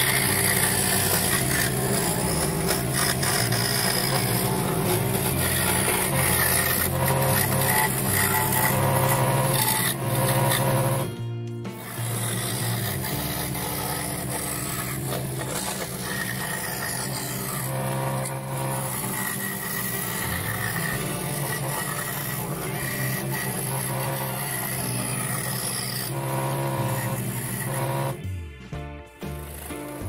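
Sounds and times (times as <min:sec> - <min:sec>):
scroll saw cutting wood: 0:00.0 - 0:28.5, 0:29.2 - 0:30.0.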